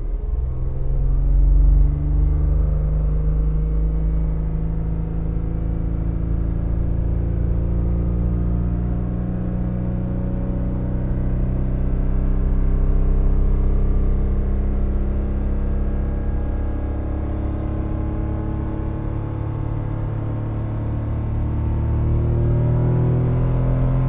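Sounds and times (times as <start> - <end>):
car engine rumbling inside cabin: 0.0 - 24.0.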